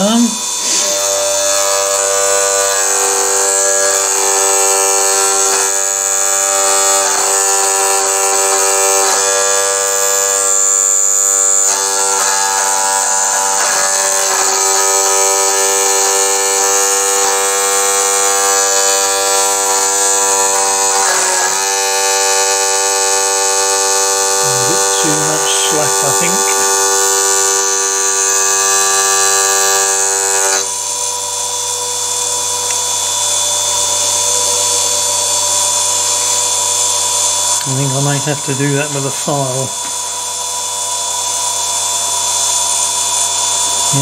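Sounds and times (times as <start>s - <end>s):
small electric motor whining: 0.0s - 44.0s.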